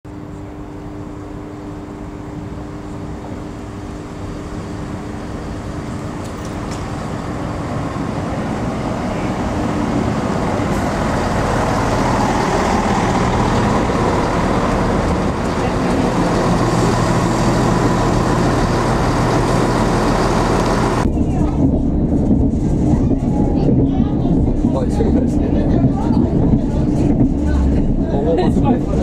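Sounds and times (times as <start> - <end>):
diesel train engine and wheels: 0.1 - 29.0.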